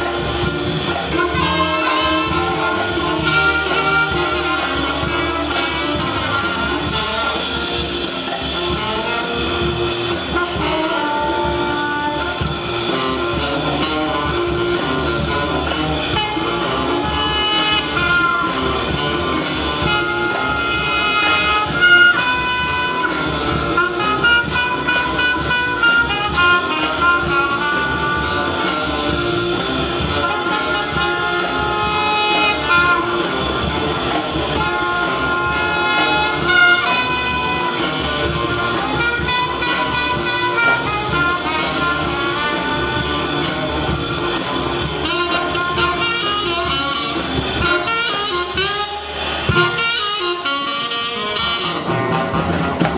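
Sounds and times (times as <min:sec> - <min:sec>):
jazz band playing: 0:00.0 - 0:52.9.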